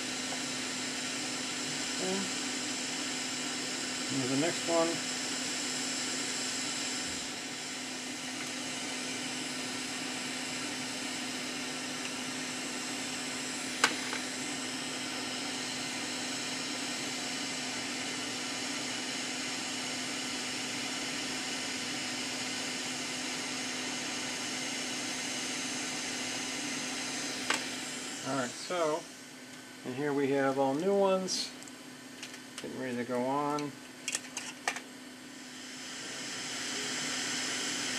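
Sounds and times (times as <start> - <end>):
hot-air gun blowing: 0.0 - 29.6, 35.2 - 37.9.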